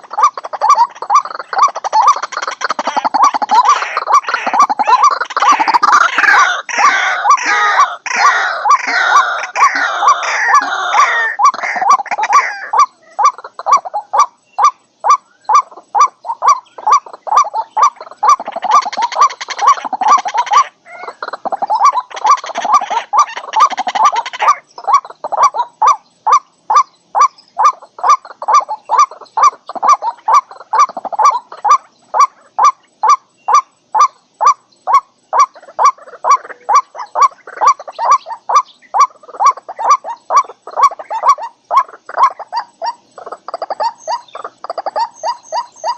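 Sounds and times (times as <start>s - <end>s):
waterhen calling: 0.0s - 45.9s.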